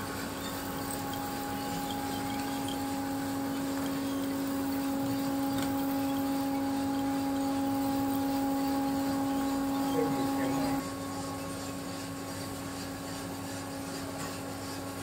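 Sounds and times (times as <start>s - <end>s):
machine humming and whirring: 0.0s - 15.0s.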